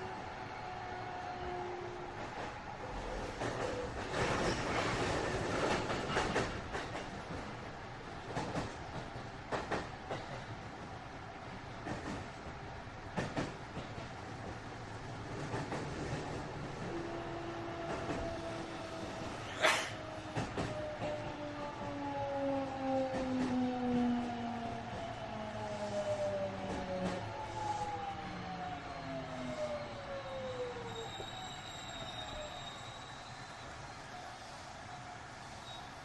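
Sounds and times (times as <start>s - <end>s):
train wheels on rail: 0.0s - 36.0s.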